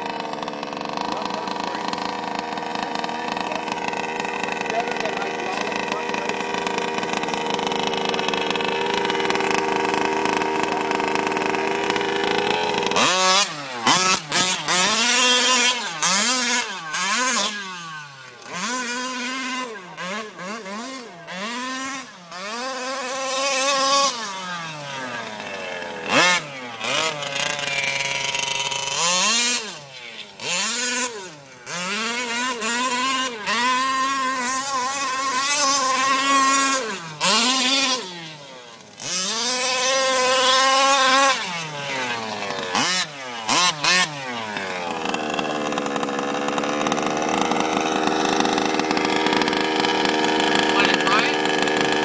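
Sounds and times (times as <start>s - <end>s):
small two-stroke engine revving: 0.0s - 52.0s.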